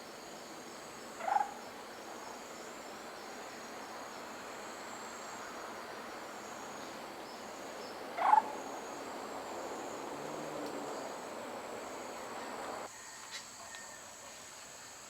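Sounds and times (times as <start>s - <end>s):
insects droning and trilling: 0.0s - 15.0s.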